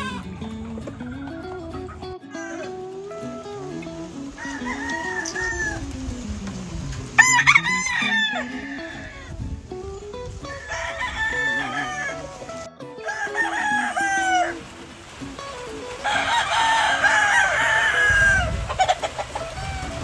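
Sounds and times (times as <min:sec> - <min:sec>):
roosters crowing: 0:00.0 - 0:09.6, 0:10.3 - 0:20.0.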